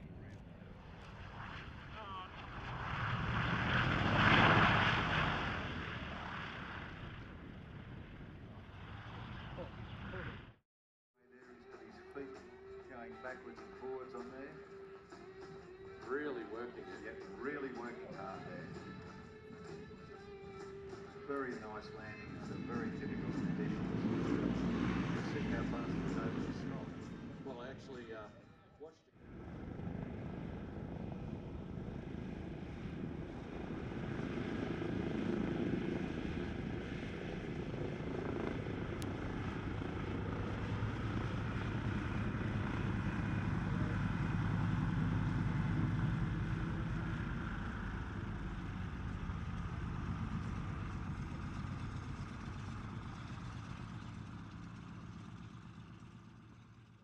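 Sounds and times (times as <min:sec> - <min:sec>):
propeller aircraft engines droning: 0:00.0 - 0:10.6, 0:11.4 - 0:57.0.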